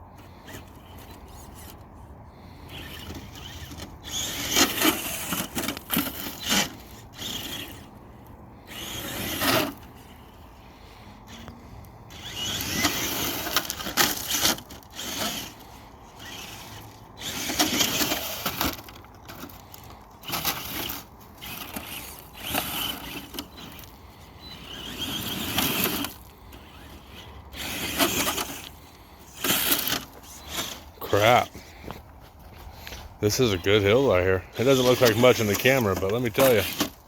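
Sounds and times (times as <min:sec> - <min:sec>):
tyres scrabbling in sand: 0:00.0 - 0:37.0
electric motor whining: 0:00.2 - 0:37.0.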